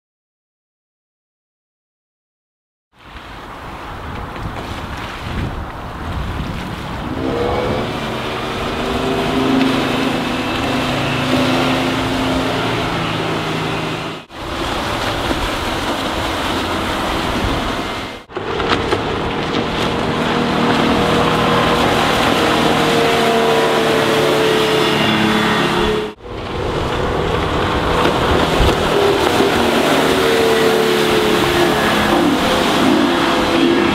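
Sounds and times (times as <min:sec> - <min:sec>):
boat engine running at speed: 0:03.1 - 0:33.9.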